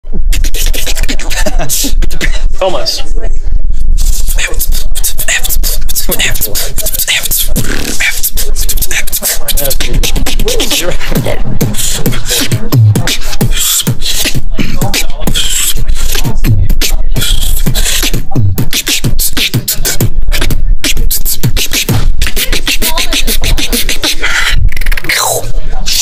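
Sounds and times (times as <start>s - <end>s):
deep beatboxed bass kicks: 0.0s - 2.8s, 3.6s - 26.0s
percussive mouth clicks and snares: 4.0s - 26.0s.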